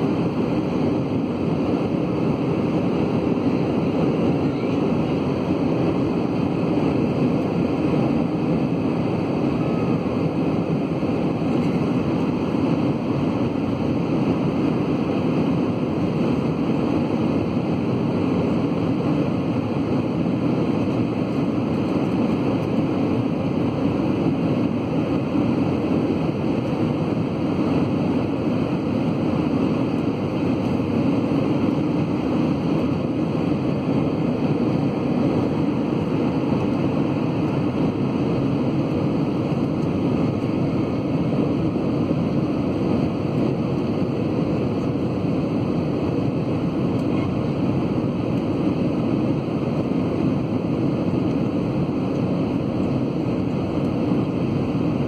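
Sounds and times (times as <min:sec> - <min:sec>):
airplane cabin airflow and engine: 0:00.0 - 0:55.0.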